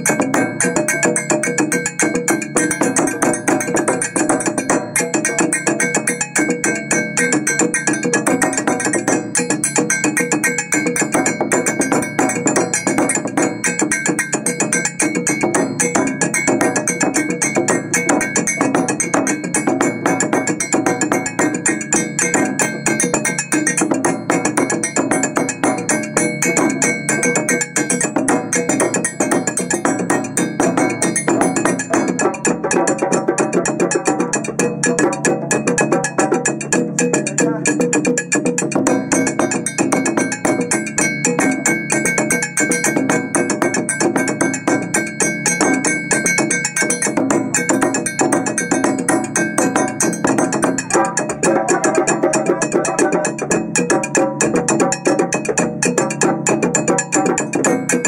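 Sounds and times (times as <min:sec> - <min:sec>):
iron bells struck: 0:00.0 - 0:37.6, 0:38.2 - 0:54.2
bass drums beaten with sticks: 0:00.0 - 0:58.0.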